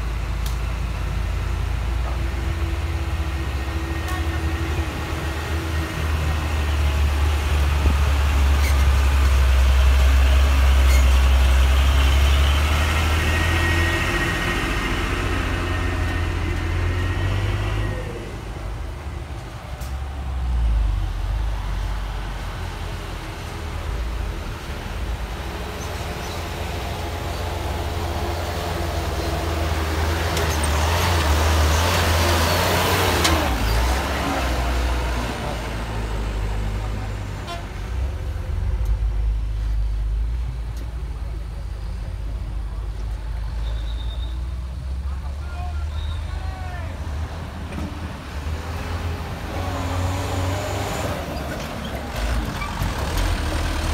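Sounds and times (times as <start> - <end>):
diesel truck engine passing: 0.0 - 43.7, 46.8 - 53.9
distant truck engines: 0.0 - 53.9.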